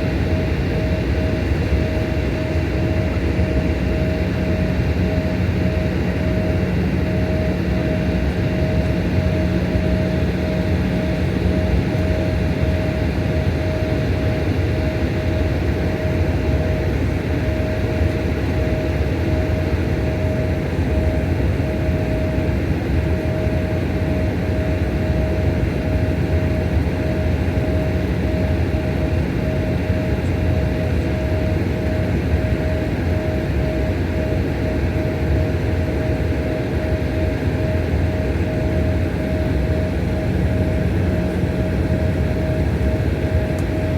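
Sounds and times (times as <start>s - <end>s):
constant engine whine: 0.0s - 43.9s
jet engines roaring in cabin: 0.0s - 43.9s.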